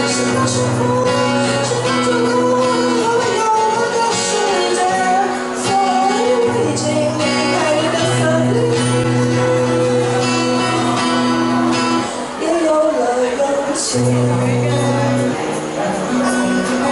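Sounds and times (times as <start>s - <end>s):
person singing: 0.0s - 16.9s
strummed acoustic guitar: 0.0s - 16.9s.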